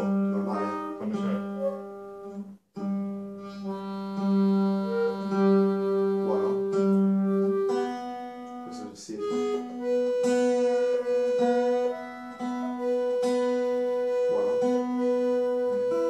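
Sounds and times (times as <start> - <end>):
accordion melody: 0.0 - 16.0
plucked acoustic guitar: 0.0 - 16.0.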